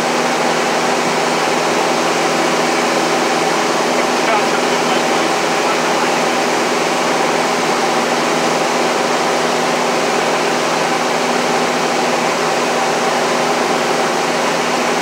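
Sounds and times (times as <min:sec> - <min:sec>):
light aircraft engine drone: 0:00.0 - 0:15.0.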